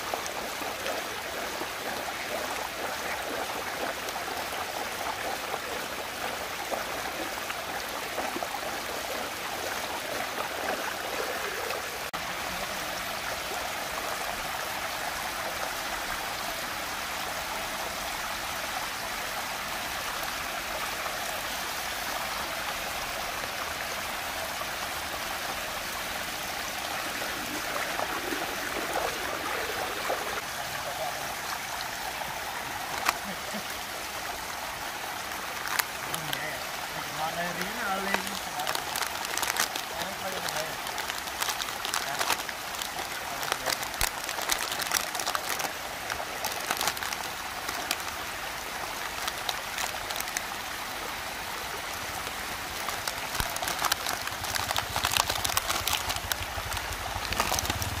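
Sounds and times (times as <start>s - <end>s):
water rushing into whirlpool: 0.0s - 58.0s.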